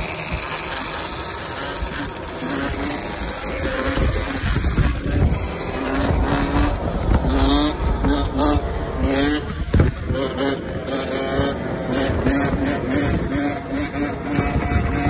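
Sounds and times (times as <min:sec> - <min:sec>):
atv and motorcycle engines revving: 0:00.0 - 0:15.0.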